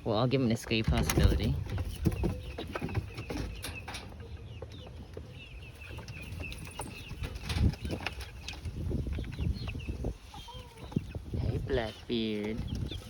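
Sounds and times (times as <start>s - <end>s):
young hens chirping clucks: 0.0s - 13.0s.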